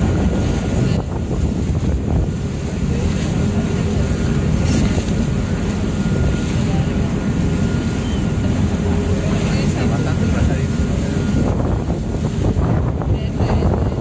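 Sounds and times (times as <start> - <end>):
boat engine rumble: 0.0 - 14.0
water washing past: 0.0 - 14.0
wind buffeting microphone: 0.0 - 14.0.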